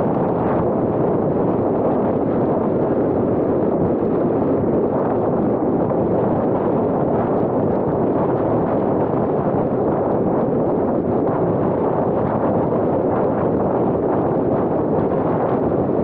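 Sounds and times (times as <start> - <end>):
wind on camera microphone: 0.0 - 16.0.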